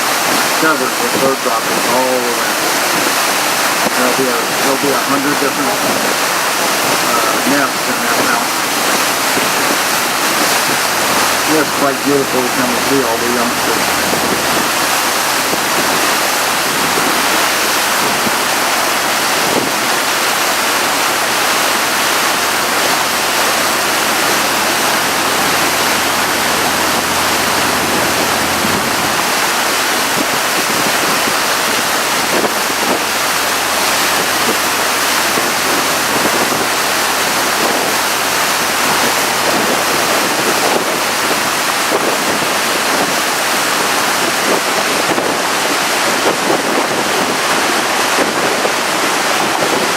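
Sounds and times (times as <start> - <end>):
boat engine hum: 0.0 - 49.9
rush of wind and water: 0.0 - 49.9.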